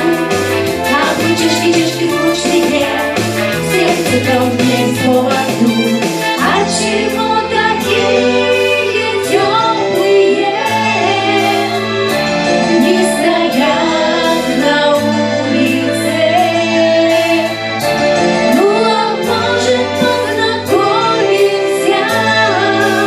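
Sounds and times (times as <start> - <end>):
person singing: 0.0 - 17.7, 18.5 - 23.0
instrumental accompaniment with beat: 0.0 - 23.0.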